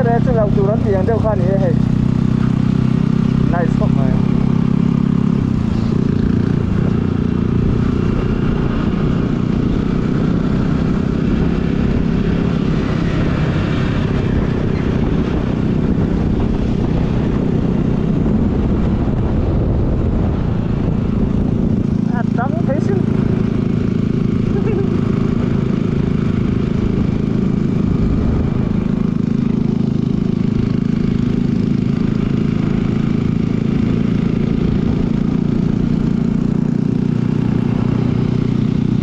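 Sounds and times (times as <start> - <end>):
motorcycle engine running: 0.0 - 39.0
wind noise on microphone: 5.3 - 36.7.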